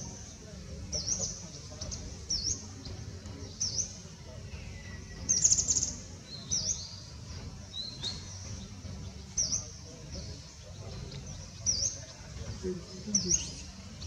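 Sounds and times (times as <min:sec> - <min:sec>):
steady low rumble: 0:00.0 - 0:14.0
small bird chirping: 0:00.9 - 0:14.0.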